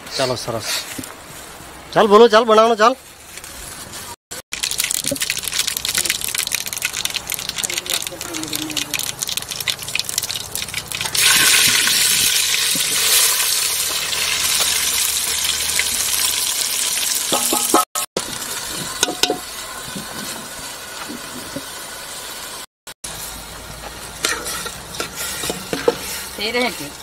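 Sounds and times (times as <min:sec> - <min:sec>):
hot oil sizzling in a pot: 0:04.5 - 0:27.0.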